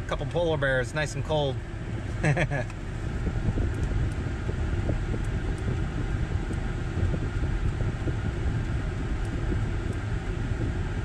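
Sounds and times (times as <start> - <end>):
car blower fan blowing: 0.0 - 11.0
car engine idling: 0.0 - 11.0.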